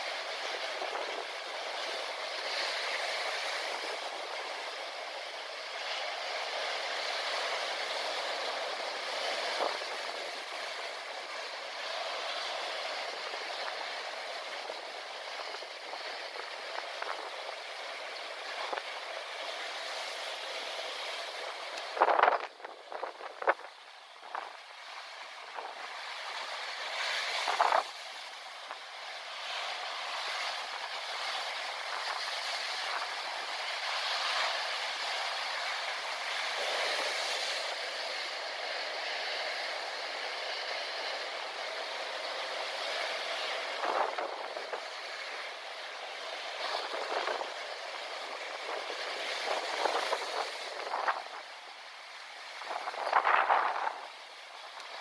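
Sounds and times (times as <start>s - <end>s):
waves breaking against rocks: 0.0s - 55.0s.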